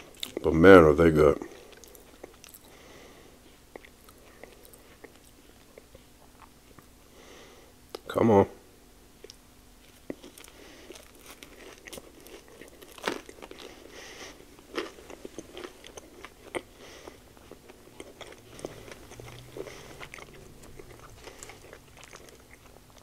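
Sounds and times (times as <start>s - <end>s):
wet chewing mouth sounds: 1.4s - 2.7s, 3.5s - 6.9s, 9.2s - 23.0s.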